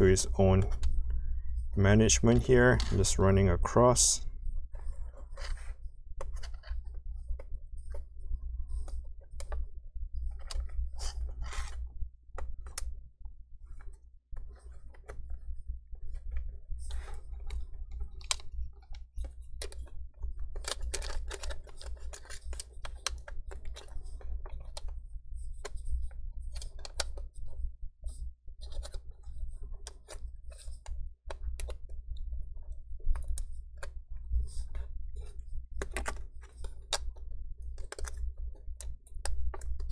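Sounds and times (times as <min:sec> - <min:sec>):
steady low hum: 0:00.0 - 0:39.9
plastic clicks and scrapes: 0:04.7 - 0:11.8, 0:13.7 - 0:39.9.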